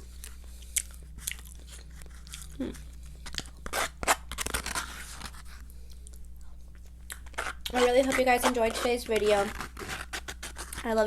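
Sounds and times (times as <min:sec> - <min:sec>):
crunchy fried chicken chewing: 0:00.0 - 0:11.0.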